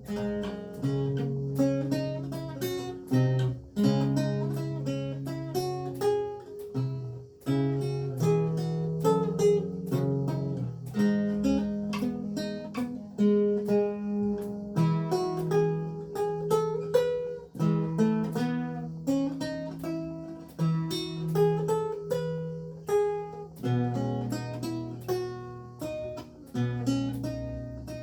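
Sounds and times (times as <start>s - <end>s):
lute plucked melody: 0.0s - 28.0s.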